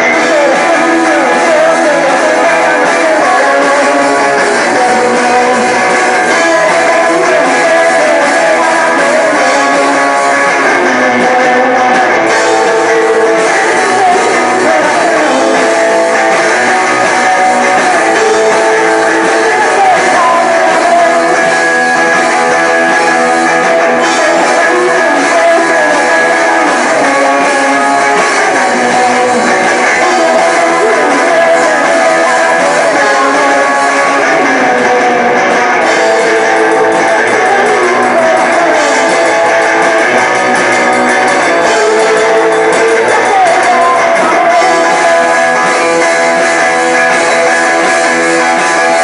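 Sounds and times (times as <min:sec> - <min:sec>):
loud dense guitar music: 0:00.0 - 0:49.0.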